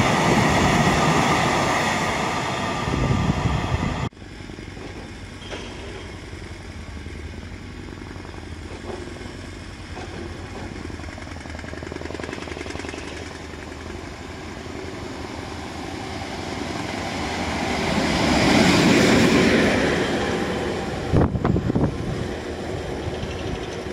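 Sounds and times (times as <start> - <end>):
electric locomotive passing: 0.0 - 23.9.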